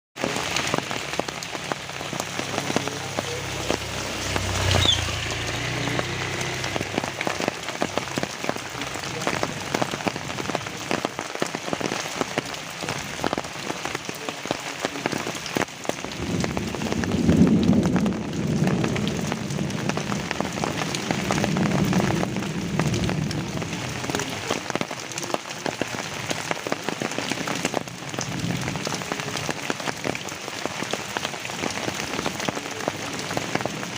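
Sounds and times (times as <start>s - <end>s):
rain pattering on leaves: 0.2s - 33.9s.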